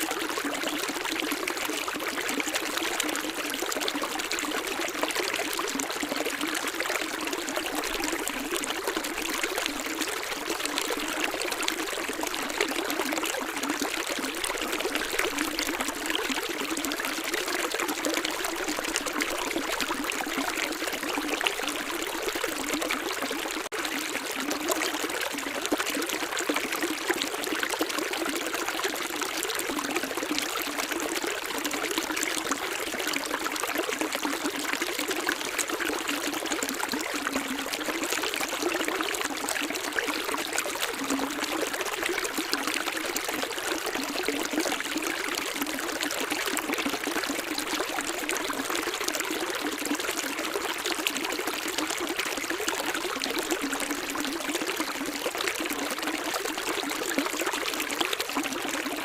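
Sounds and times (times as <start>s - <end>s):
running water bubbling and trickling: 0.0s - 59.0s.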